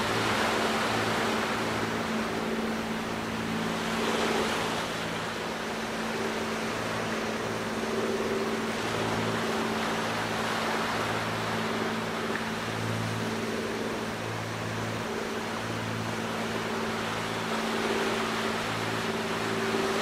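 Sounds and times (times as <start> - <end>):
low engine hum: 0.0 - 20.0
waves rushing: 0.0 - 20.0.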